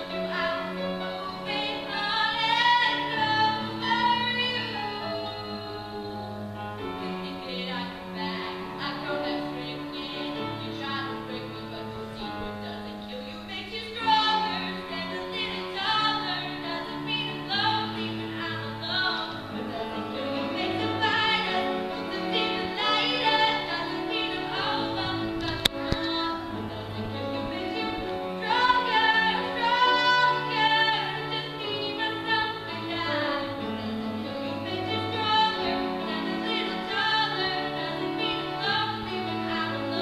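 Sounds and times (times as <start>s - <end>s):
held accompaniment chords: 0.0s - 40.0s
woman singing: 0.0s - 40.0s.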